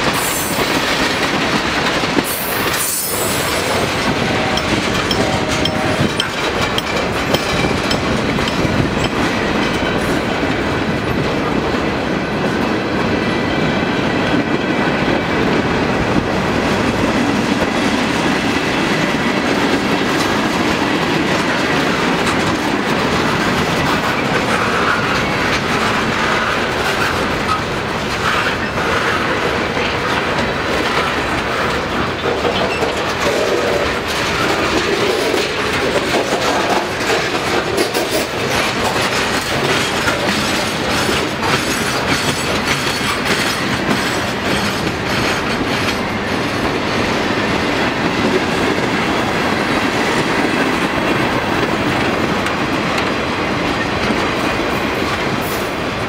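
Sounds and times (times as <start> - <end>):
wheels clacking over rail joints: 0.0 - 13.6, 16.8 - 56.0
freight train rumbling: 0.0 - 56.0.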